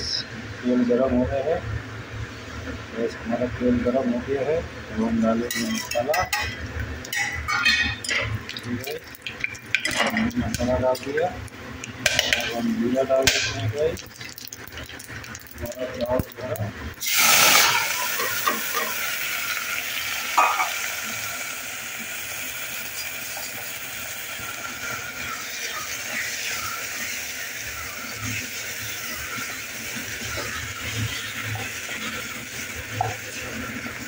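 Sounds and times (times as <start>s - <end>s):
rice sizzling in hot fat: 5.4s - 34.0s.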